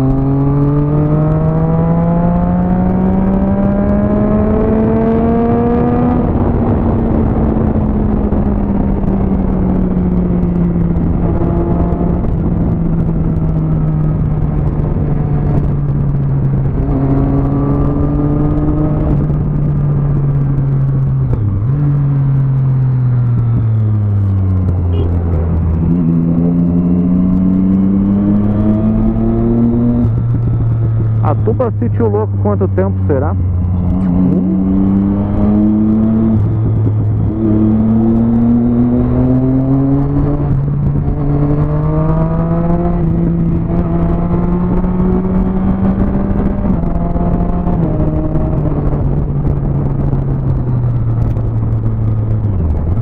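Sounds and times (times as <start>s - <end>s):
motorcycle engine revving: 0.0s - 53.0s
wind noise: 0.0s - 53.0s.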